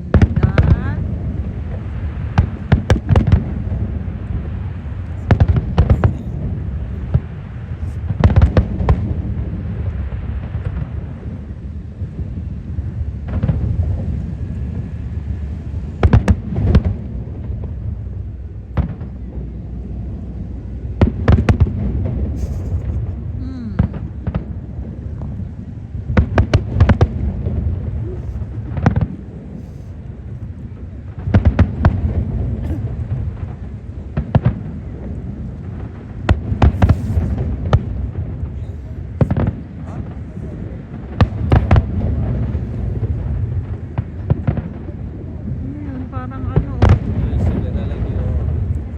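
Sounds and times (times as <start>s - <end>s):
continuous low rumble: 0.0s - 48.9s
fireworks bursting: 0.0s - 48.9s.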